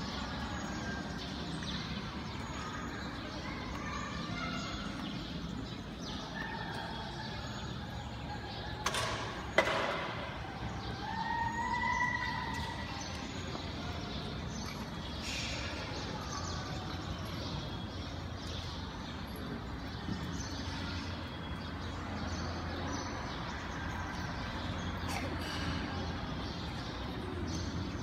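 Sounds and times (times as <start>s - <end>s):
hall background noise: 0.0s - 28.0s.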